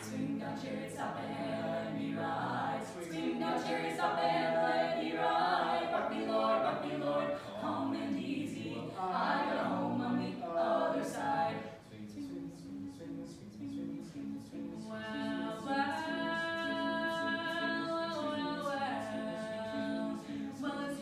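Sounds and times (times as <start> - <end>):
quartet singing a cappella: 0.0 - 21.0.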